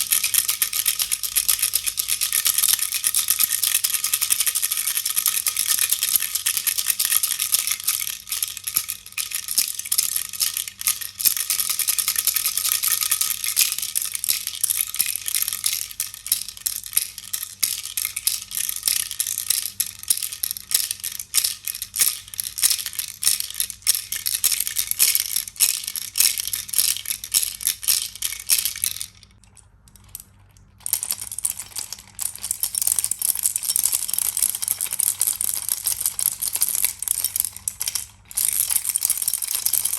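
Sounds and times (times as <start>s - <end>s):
baby rattle shaken: 0.0s - 29.3s, 30.8s - 39.9s.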